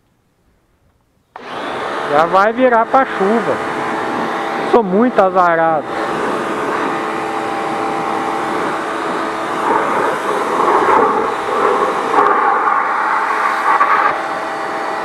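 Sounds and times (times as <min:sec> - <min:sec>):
pressure washer motor hum: 0:01.4 - 0:15.0
water jet hissing and splashing: 0:02.0 - 0:15.0.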